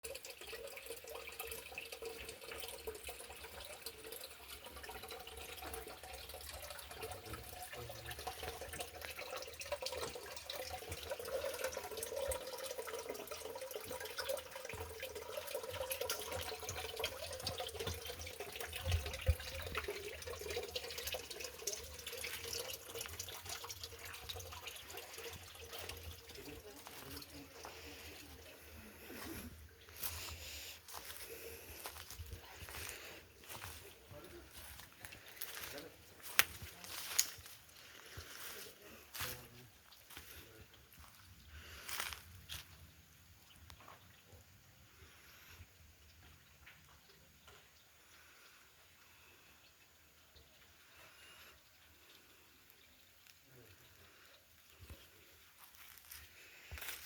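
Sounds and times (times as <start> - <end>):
spring water trickling and splashing: 0.0 - 57.0.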